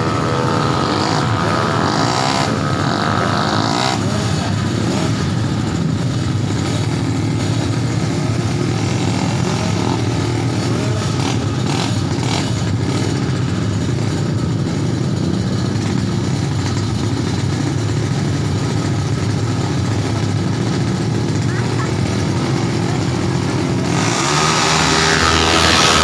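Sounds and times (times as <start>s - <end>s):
motorcycle engines running: 0.0s - 26.0s.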